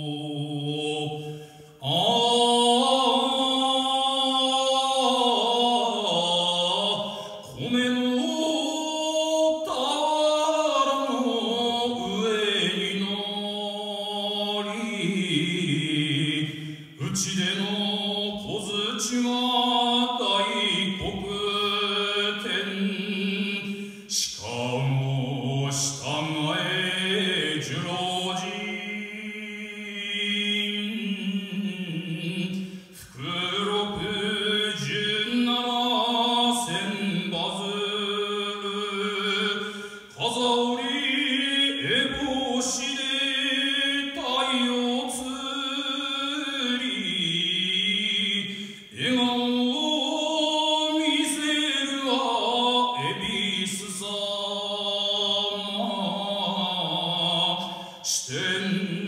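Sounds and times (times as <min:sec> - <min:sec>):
man singing unaccompanied: 0:00.0 - 0:59.0.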